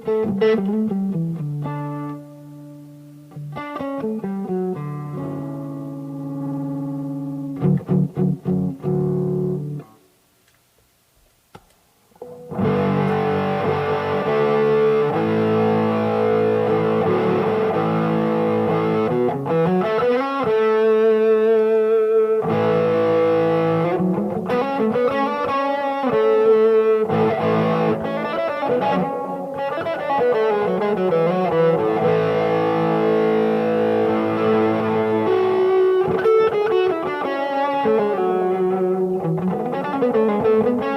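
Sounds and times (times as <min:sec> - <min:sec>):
distorted electric guitar: 0:00.0 - 0:10.1, 0:12.2 - 0:40.9.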